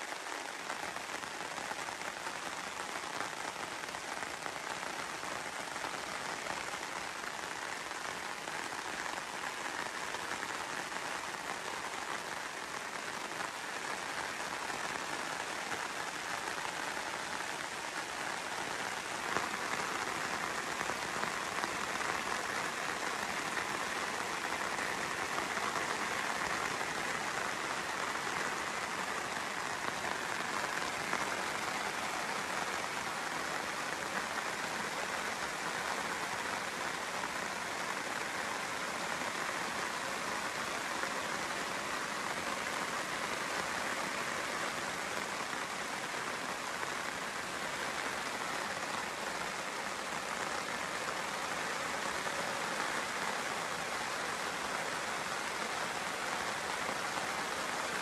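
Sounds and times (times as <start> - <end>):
rain on a tarp: 0.0 - 58.0.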